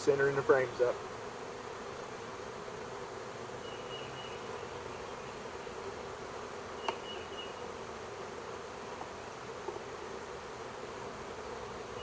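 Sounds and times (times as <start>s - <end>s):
bee swarm buzzing: 0.0s - 12.0s.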